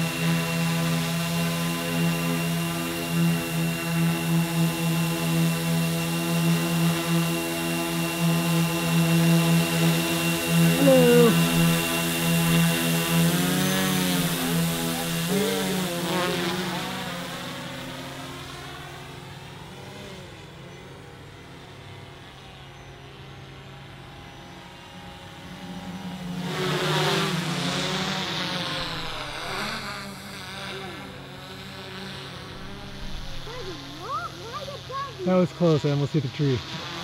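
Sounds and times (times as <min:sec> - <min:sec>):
quadcopter propellers buzzing: 0:00.0 - 0:37.0.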